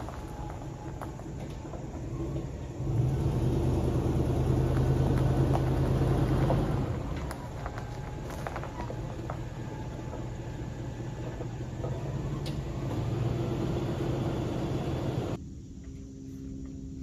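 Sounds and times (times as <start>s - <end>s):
truck engine running: 0.0s - 15.4s.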